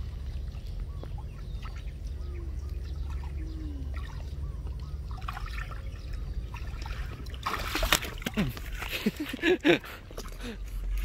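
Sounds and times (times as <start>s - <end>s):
small splashes and drips: 0.0s - 11.0s
steady low rumble: 0.0s - 11.0s
water trickling and lapping: 0.0s - 11.0s.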